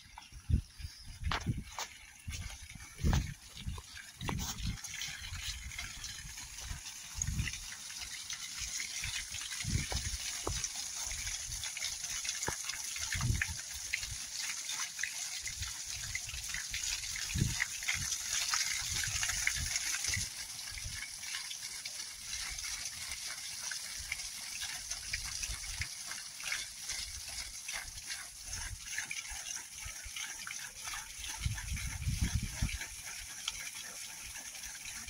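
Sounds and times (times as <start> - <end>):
water jet spraying from hose: 1.3 - 35.0.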